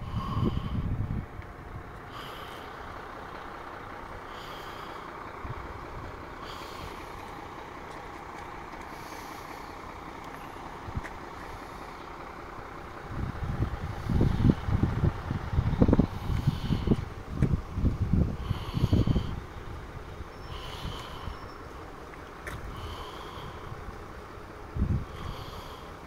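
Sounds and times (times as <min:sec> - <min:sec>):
diesel truck idling: 0:00.0 - 0:26.0.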